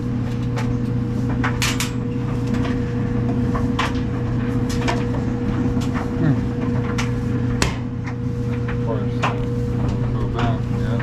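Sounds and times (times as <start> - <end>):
clothes dryer humming: 0.0 - 11.0.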